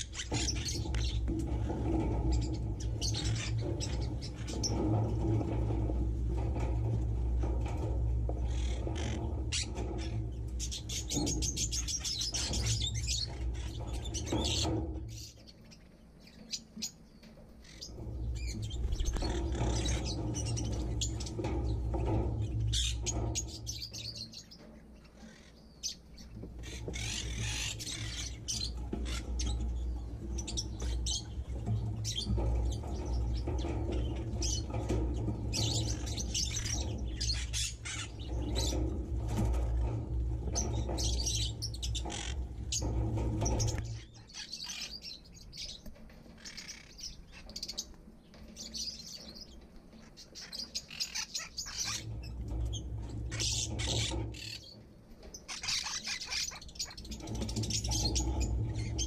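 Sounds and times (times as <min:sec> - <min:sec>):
birds chirping and twittering: 0:00.0 - 0:59.0.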